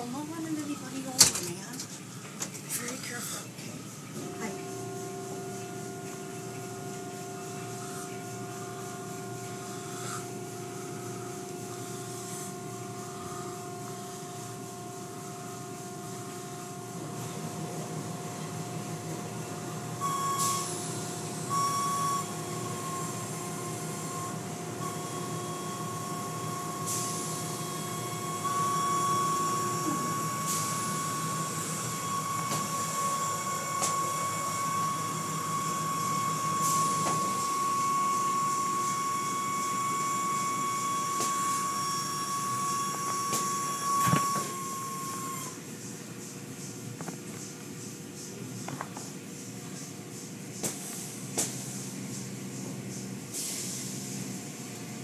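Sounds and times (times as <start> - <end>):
car wash motor and pump hum: 0.0 - 55.0.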